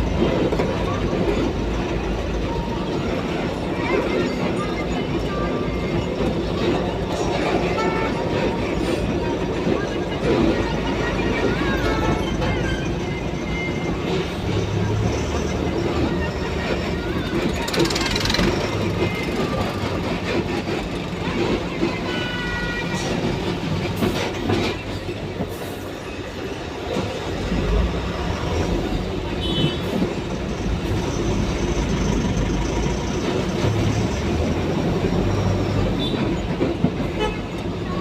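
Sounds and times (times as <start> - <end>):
moving vehicle rumble and rattle: 0.0 - 38.0.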